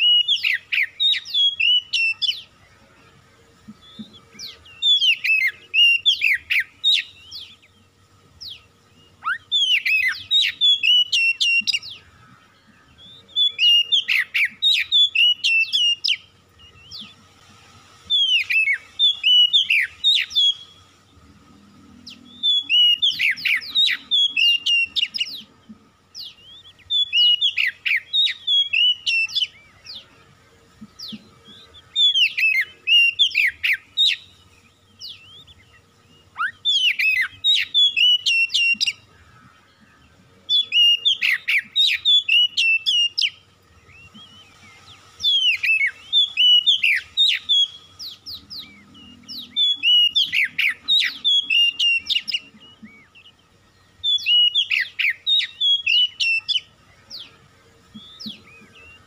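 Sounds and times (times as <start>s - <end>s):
bird singing whistled phrases: 0.0s - 2.5s, 3.8s - 7.8s, 8.4s - 12.1s, 12.9s - 17.2s, 18.1s - 20.8s, 22.1s - 25.6s, 26.2s - 30.1s, 31.0s - 39.1s, 40.4s - 57.4s, 58.0s - 59.0s.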